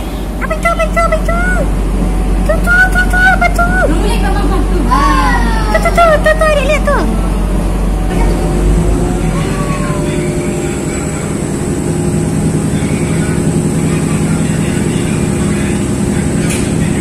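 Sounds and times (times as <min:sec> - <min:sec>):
railcar engine drone: 0:00.0 - 0:17.0
thin high whine: 0:00.0 - 0:17.0.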